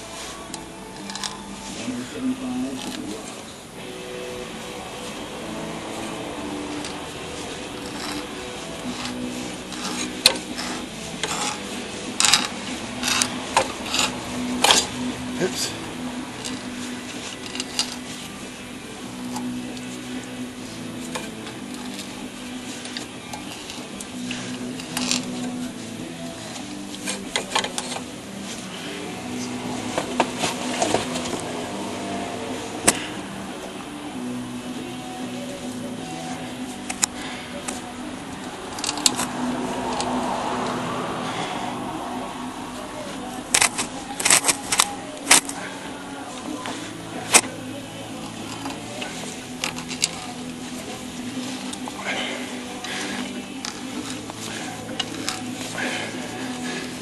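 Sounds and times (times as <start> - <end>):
metal tools clinking and scraping: 0.0 - 3.5, 5.0 - 15.8, 16.4 - 18.4, 20.6 - 32.2, 35.6 - 40.8, 43.0 - 57.0
steady low hum: 0.0 - 57.0.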